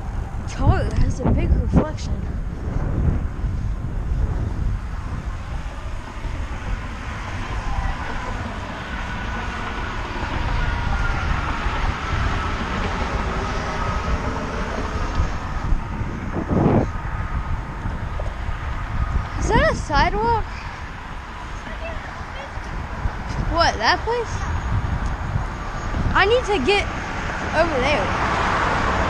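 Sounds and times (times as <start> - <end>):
road traffic noise: 0.0 - 29.0
wind on microphone: 0.0 - 29.0.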